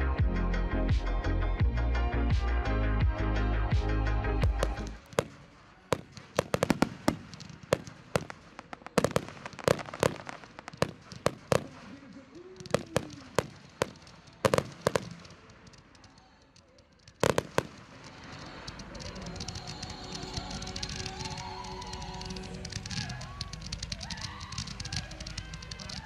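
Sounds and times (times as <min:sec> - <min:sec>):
fireworks bangs and crackles: 0:04.4 - 0:16.4, 0:17.0 - 0:26.0.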